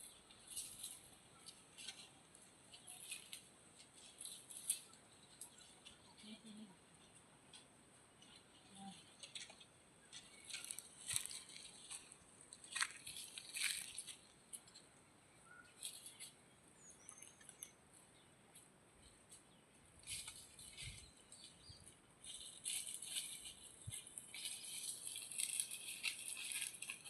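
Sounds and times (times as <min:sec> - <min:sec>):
faint crunching and rustling: 0:00.0 - 0:27.0.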